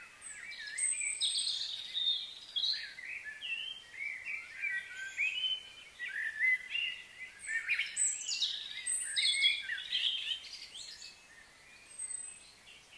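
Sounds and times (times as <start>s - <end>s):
songbirds chirping and whistling: 0.0s - 12.9s.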